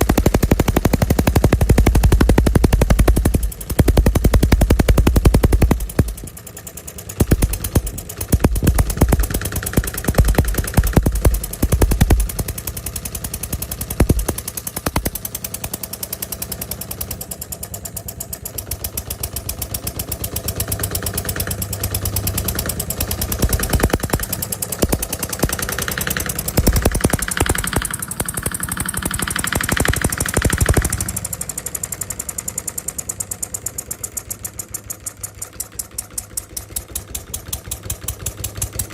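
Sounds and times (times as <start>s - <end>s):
model diesel engine knocking: 0.0s - 38.9s.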